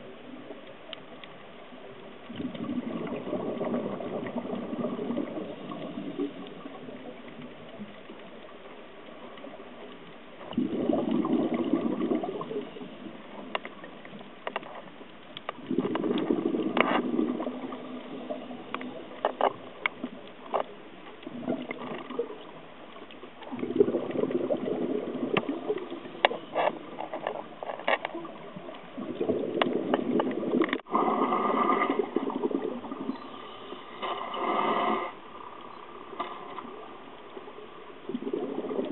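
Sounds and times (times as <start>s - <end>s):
regulator clicks and crackles: 0.1s - 38.9s
exhaled bubbles underwater: 1.6s - 14.2s, 15.5s - 38.9s.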